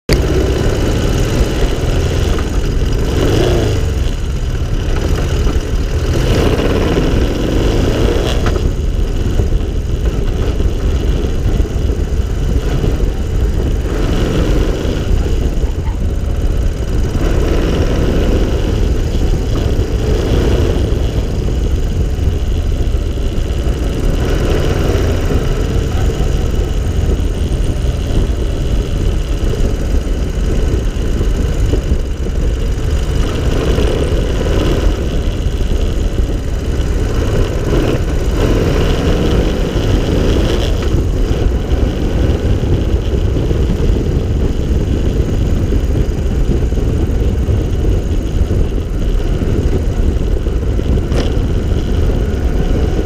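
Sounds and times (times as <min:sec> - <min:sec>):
road and wind rumble: 0:00.0 - 0:53.0
small car engine running: 0:00.1 - 0:53.0.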